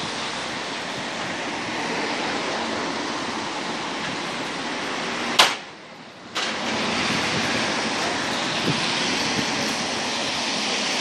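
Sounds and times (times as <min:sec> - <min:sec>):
wind noise on microphone: 0:00.0 - 0:05.6, 0:06.3 - 0:11.0.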